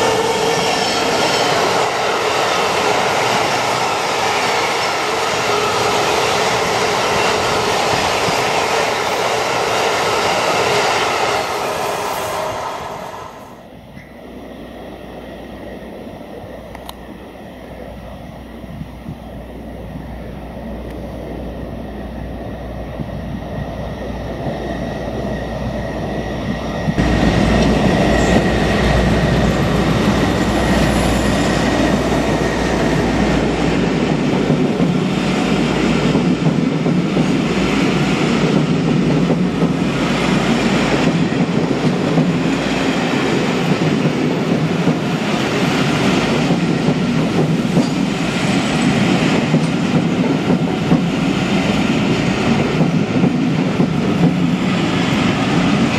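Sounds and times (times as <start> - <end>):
diesel locomotive: 0.0 - 55.9.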